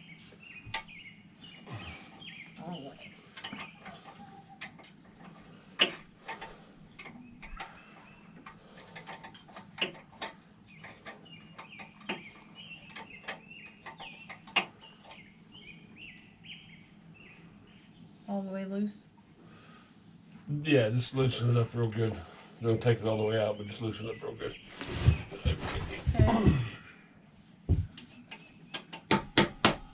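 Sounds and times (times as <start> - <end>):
birds chirping: 0.0 - 20.3, 21.0 - 27.1, 27.7 - 29.1.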